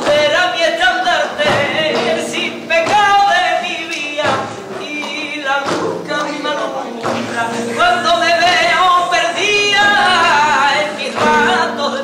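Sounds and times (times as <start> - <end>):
acoustic guitar: 0.0 - 12.0
flamenco-style singing: 0.0 - 12.0
group clapping in rhythm: 0.0 - 12.0.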